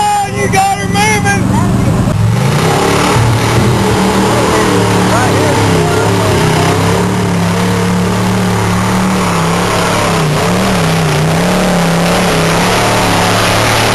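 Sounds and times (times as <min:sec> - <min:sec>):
truck engine running loud: 0:00.0 - 0:13.9.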